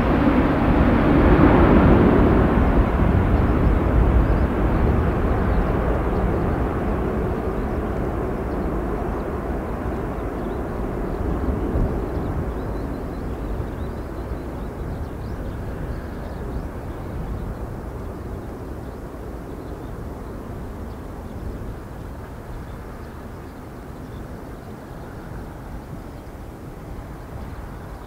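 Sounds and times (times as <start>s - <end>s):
deep jet engine rumble: 0.0s - 28.0s.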